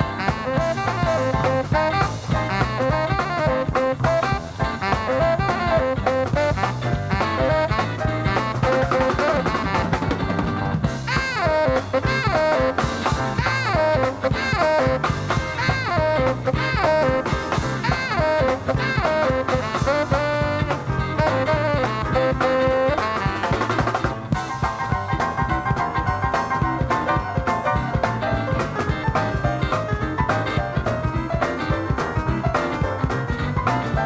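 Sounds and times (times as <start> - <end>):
drum kit and bass rhythm: 0.0 - 34.0
swing jazz lead line: 0.0 - 34.0.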